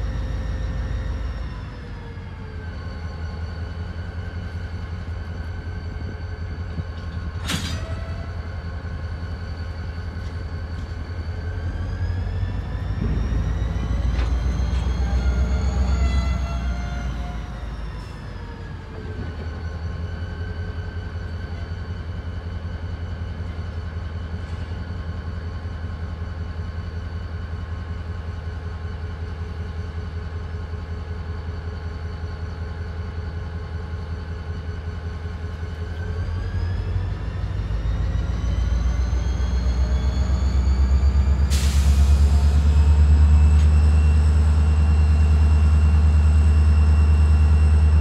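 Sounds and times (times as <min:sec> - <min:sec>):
diesel locomotive engine revving: 0:00.0 - 0:26.8, 0:33.4 - 0:48.0.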